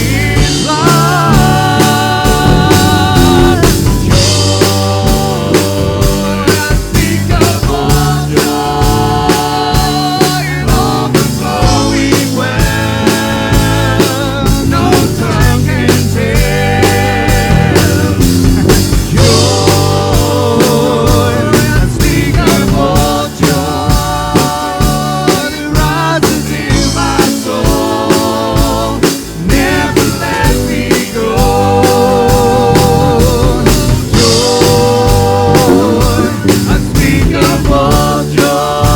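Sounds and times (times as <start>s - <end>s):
voices singing held notes: 0.0s - 38.9s
worship band playing: 0.0s - 38.9s.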